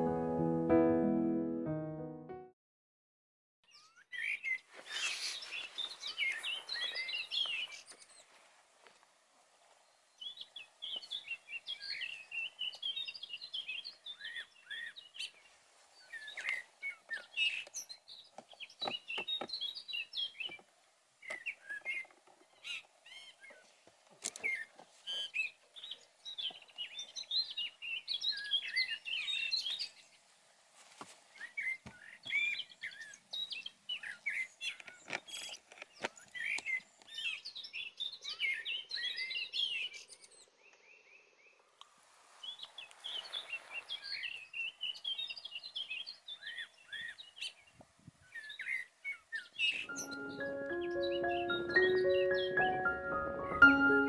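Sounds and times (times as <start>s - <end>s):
songbirds twittering: 3.6s - 8.4s, 9.6s - 30.3s, 31.3s - 41.8s, 42.4s - 54.0s.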